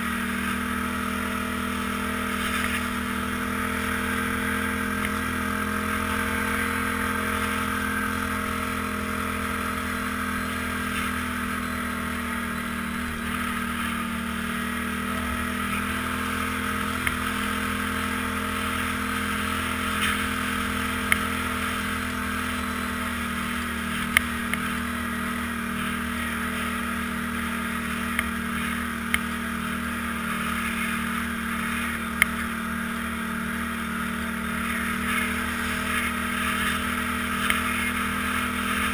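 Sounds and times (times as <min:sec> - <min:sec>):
vehicle engine cruising: 0:00.0 - 0:38.9.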